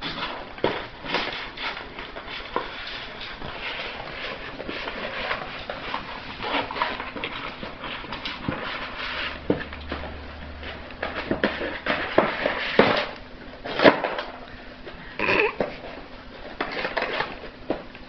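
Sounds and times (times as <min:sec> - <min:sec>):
dog chewing packaging: 0:00.0 - 0:18.0.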